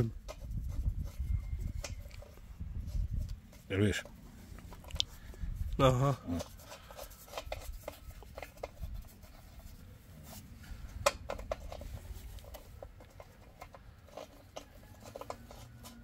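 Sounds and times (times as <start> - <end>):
metal fuel tap clicking and scraping: 0.0 - 5.7, 6.4 - 9.6, 10.8 - 16.0.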